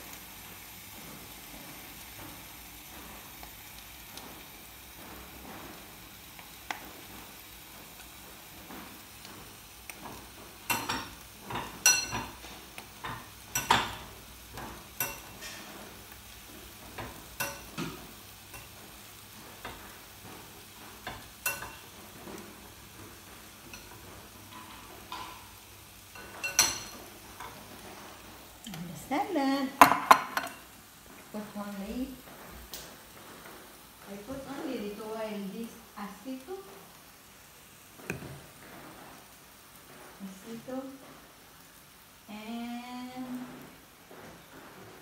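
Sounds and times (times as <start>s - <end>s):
shrimp sizzling on a grill: 0.0s - 45.0s.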